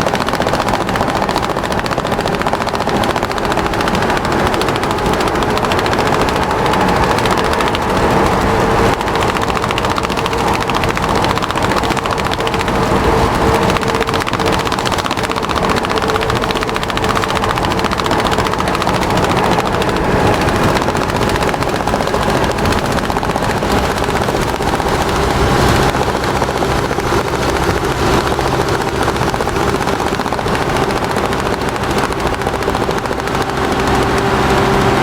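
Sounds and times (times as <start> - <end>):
small motor and gears rattling: 0.0 - 35.0.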